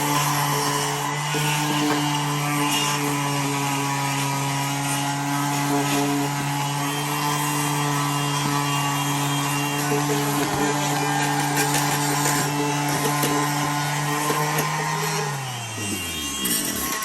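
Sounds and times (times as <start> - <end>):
power tool motor running: 0.0 - 17.0.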